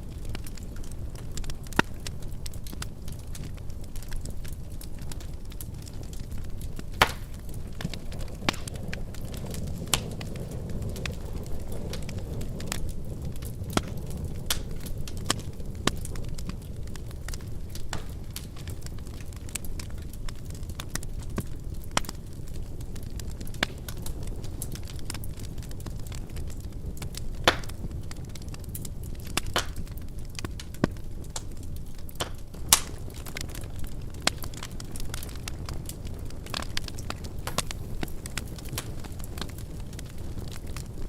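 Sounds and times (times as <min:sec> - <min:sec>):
loud pops from fire: 0:00.0 - 0:41.0
wood fire crackling: 0:00.0 - 0:41.0.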